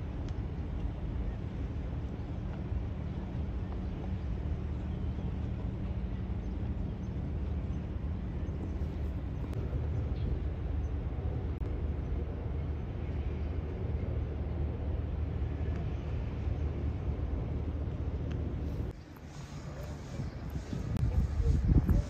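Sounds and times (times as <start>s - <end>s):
yacht engines rumbling: 0.0s - 22.0s.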